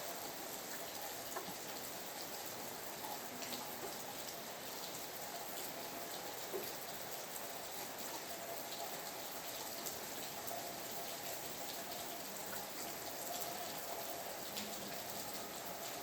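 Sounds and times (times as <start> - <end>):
rain drops ticking on a surface: 0.0 - 16.0.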